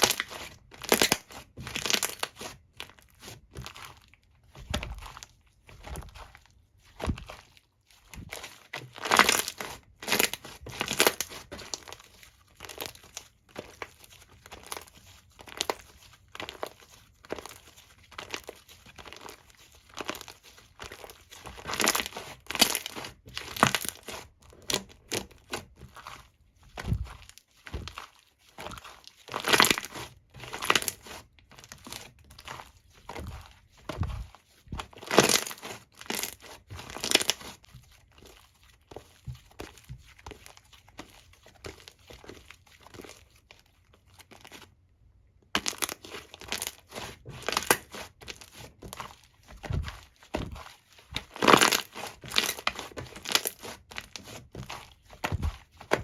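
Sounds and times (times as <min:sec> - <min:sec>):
foam slime squishing: 0:00.0 - 0:44.8, 0:45.5 - 0:56.0.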